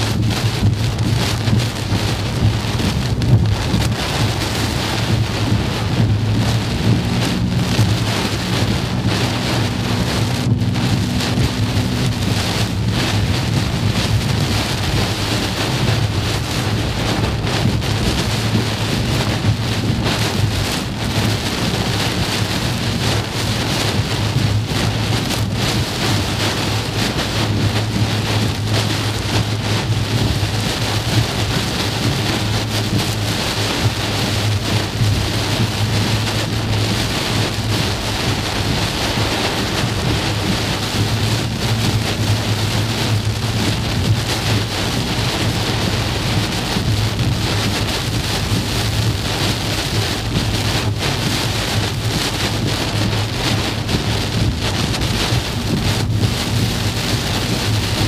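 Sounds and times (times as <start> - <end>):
heavy rain on car windshield: 0.0 - 58.0
low steady hum: 0.0 - 58.0.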